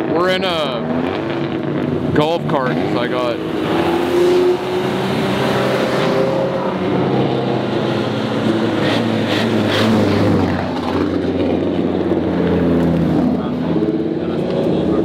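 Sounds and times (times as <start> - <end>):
car engines passing: 0.0 - 15.0.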